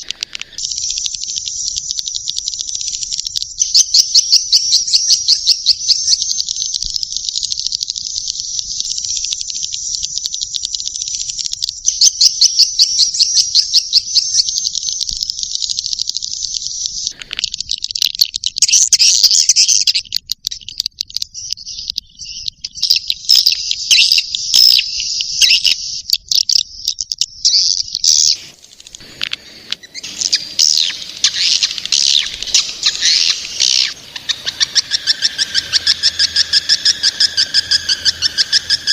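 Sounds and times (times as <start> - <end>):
juvenile swiftlets chirping: 0.0 - 38.9.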